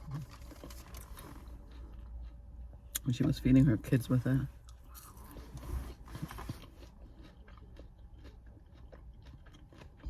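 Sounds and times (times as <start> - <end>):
low steady hum: 0.0 - 10.0
person chewing food: 0.0 - 10.0.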